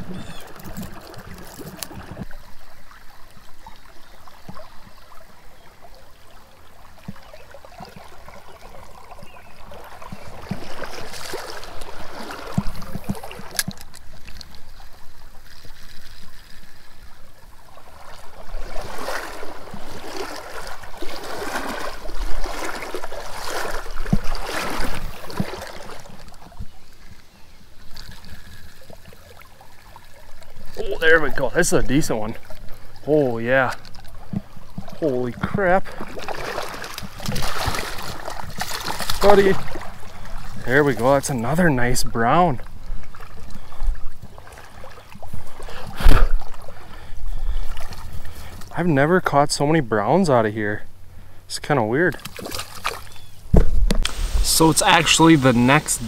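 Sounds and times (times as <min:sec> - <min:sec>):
stream water splashing: 0:00.0 - 0:56.0.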